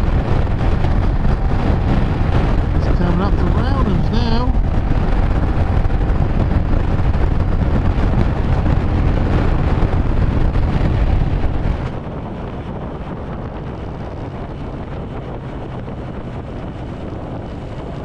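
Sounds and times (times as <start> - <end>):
motorcycle engine and road rumble: 0.0 - 18.0
wind buffeting microphone: 0.0 - 18.0.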